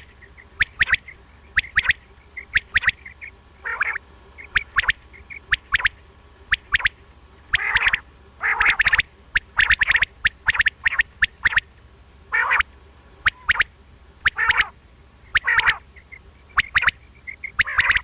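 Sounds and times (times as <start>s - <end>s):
quail calling: 0.0s - 18.0s
rasping quail calls: 0.0s - 18.0s.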